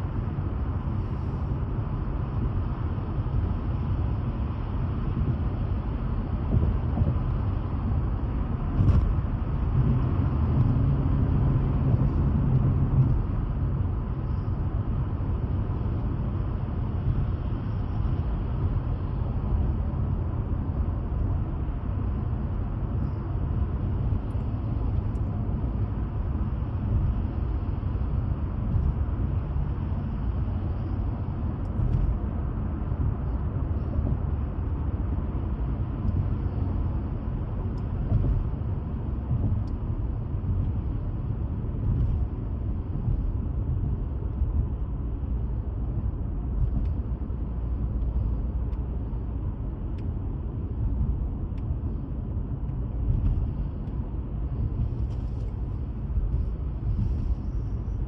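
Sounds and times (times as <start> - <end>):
steady low rumbling: 0.0 - 58.0.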